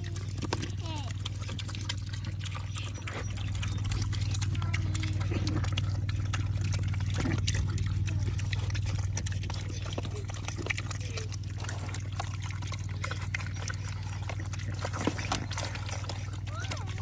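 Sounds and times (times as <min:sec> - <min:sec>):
piglets chewing and slurping: 0:00.0 - 0:17.0
snouts splashing in juice: 0:00.0 - 0:17.0
steady low hum: 0:00.0 - 0:17.0.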